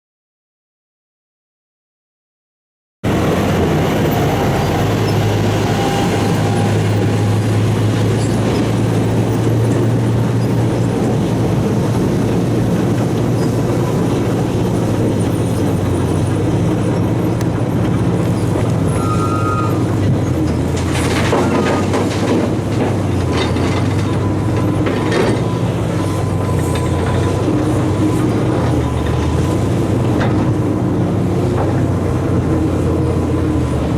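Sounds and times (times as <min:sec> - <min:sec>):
heavy diesel engines droning: 0:03.0 - 0:33.9.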